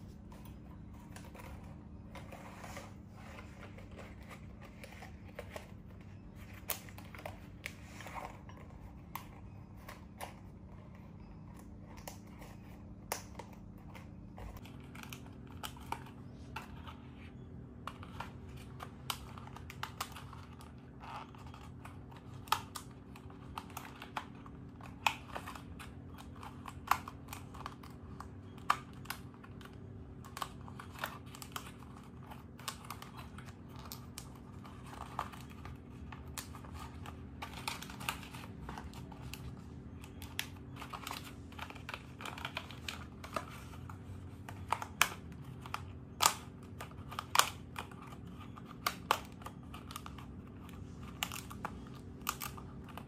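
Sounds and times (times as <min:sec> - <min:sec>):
paper crinkling: 0:00.0 - 0:53.0
steady low hum: 0:00.0 - 0:53.0.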